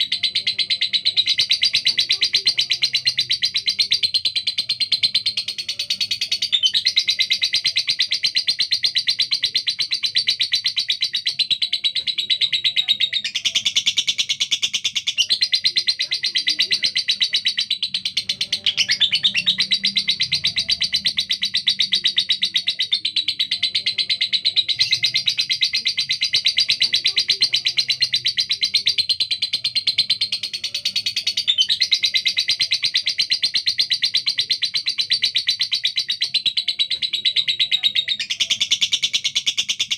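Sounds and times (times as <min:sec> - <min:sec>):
lovebird chattering chirps: 0:00.0 - 0:39.9.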